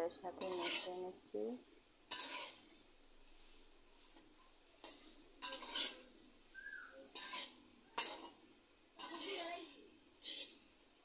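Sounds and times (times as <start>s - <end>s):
metal spatula scraping a pan: 0.3s - 1.3s, 2.0s - 11.0s.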